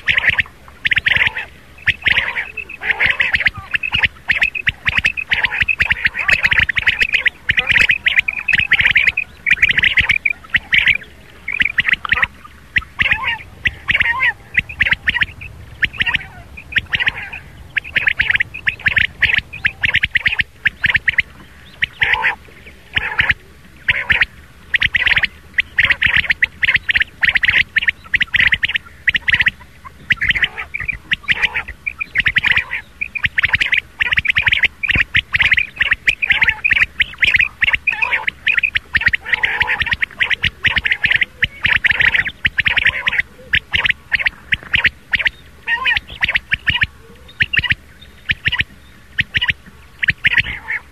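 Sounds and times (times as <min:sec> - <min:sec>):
quail calling: 0:00.0 - 0:50.9.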